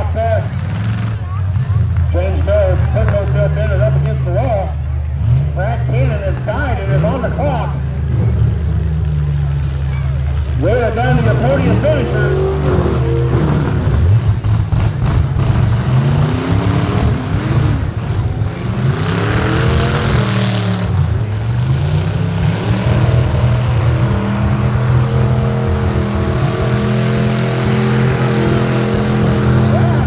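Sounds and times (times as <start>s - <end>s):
pickup truck engines revving: 0.0s - 30.0s.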